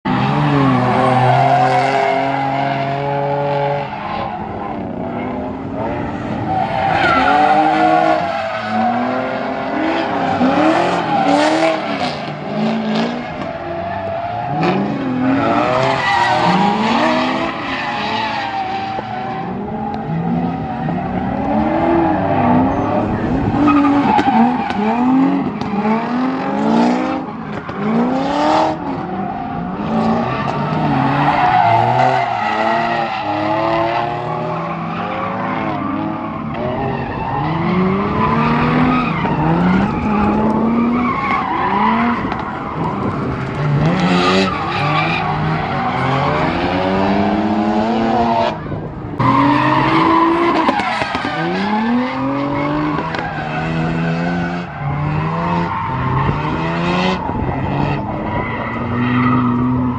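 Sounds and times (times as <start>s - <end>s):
car engines revving: 0.0s - 59.9s
tires squealing: 0.1s - 59.9s.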